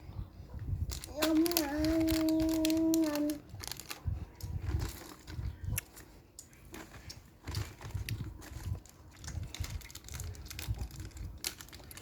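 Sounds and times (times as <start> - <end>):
plastic packaging crinkling: 0.9 - 12.0.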